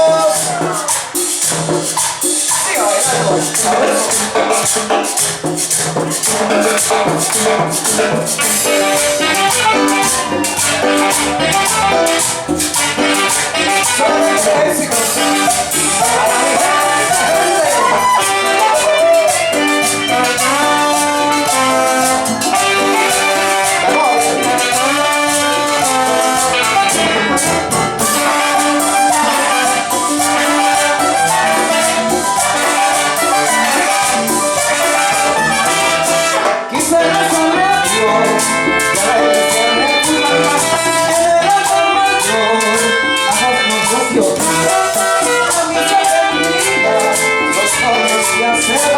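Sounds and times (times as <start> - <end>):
latin dance band playing: 0.0 - 48.9.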